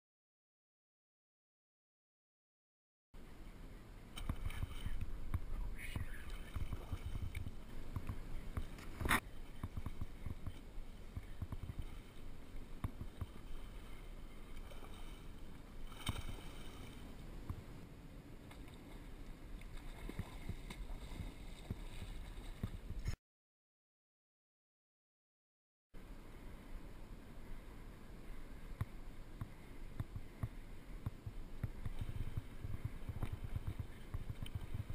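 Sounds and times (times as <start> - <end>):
muffled water and wind noise: 3.2 - 23.2, 26.0 - 34.9.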